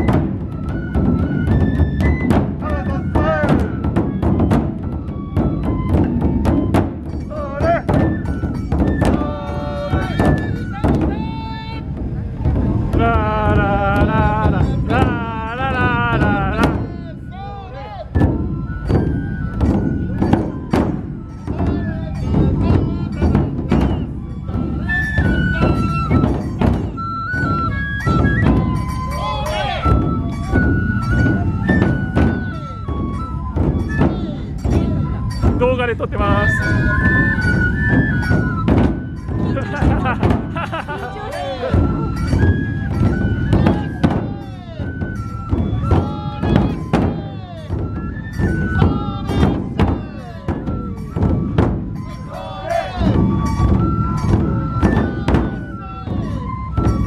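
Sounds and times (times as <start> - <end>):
bamboo flute melody: 0.0 - 57.0
taiko drums beating: 0.0 - 57.0.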